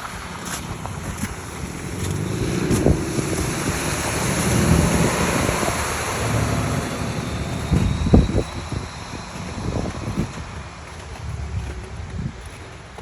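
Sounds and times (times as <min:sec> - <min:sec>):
low rumble: 0:00.0 - 0:13.0
wind buffeting microphone: 0:00.0 - 0:13.0.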